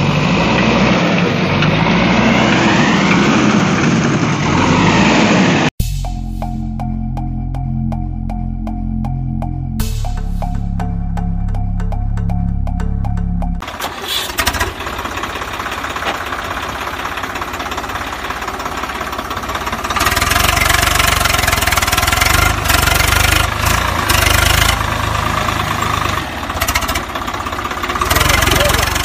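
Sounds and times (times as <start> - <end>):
tractor engine running: 0.0 - 5.4, 6.0 - 29.0.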